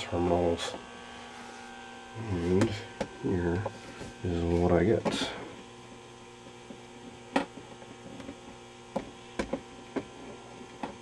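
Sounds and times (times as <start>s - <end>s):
television mains hum: 0.0s - 11.0s.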